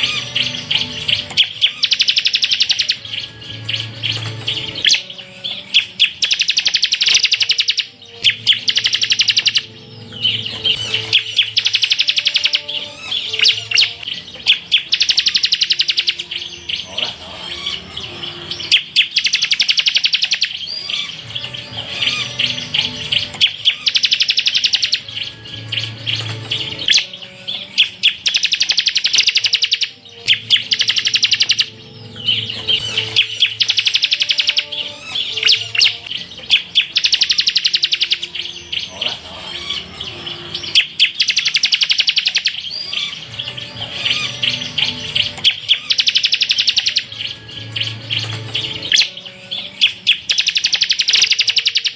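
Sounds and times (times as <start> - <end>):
bird singing rattling trills: 0.0 - 51.9.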